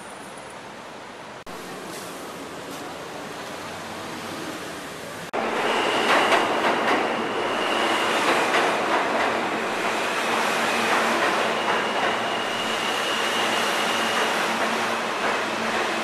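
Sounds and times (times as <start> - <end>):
subway train rushing past: 0.0 - 16.0.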